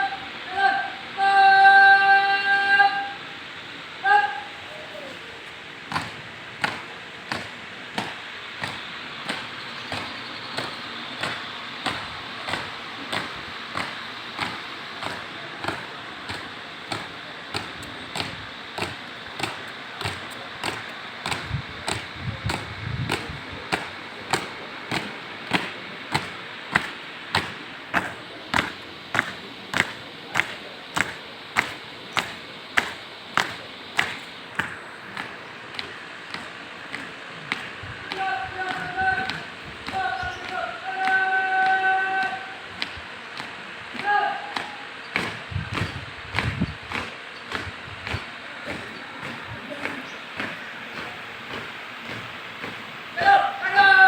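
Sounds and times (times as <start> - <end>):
boots stamping in step: 5.9 - 41.2, 42.8 - 53.4.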